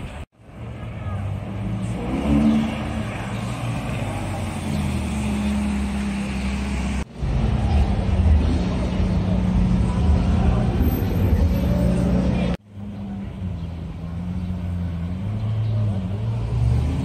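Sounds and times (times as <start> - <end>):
car engine at low speed: 0.0 - 17.0
loud rough car engine driving: 0.0 - 17.0.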